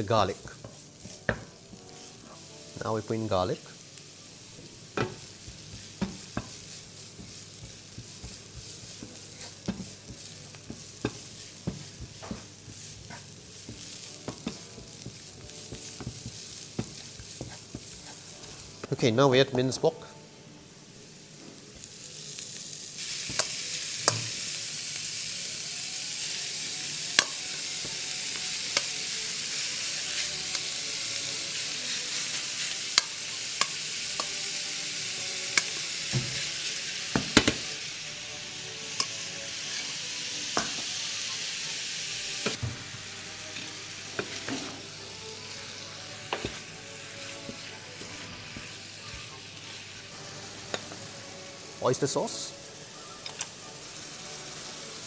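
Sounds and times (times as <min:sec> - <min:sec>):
meat sizzling in a pan: 0:00.0 - 0:55.0.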